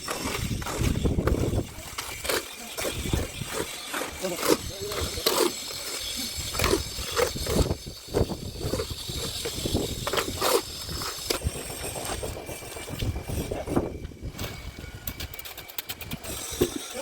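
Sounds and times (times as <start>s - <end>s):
tools knocking and scraping concrete: 0.0s - 17.0s.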